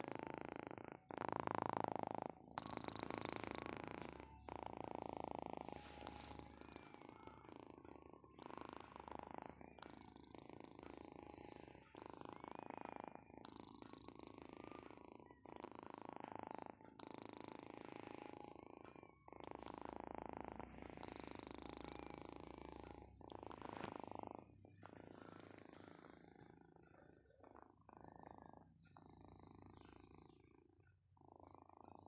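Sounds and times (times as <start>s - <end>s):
cat snoring: 0.0s - 32.0s.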